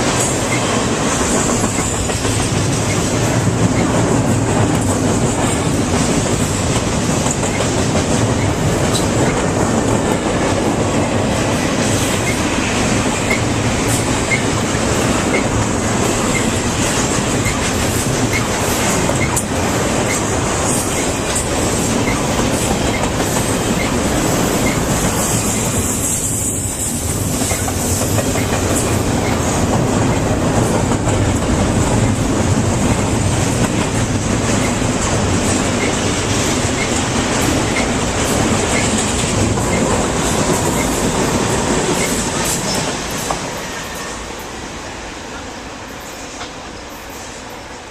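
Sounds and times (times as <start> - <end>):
train wheels rumbling on track: 0.0 - 47.9.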